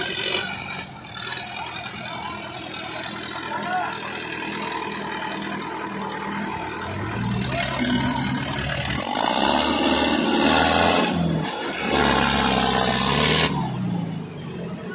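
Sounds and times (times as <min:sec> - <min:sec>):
tractor diesel engines revving: 0:00.0 - 0:14.9.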